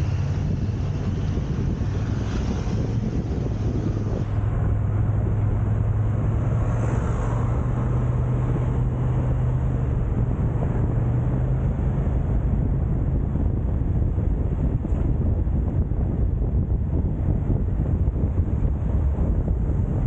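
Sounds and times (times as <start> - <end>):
car engine hum: 0.0 - 20.0
road noise: 0.0 - 20.0.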